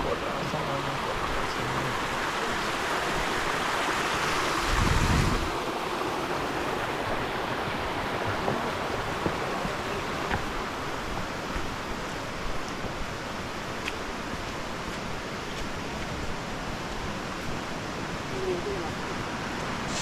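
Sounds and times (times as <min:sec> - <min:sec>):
stream water flowing: 0:00.0 - 0:20.0.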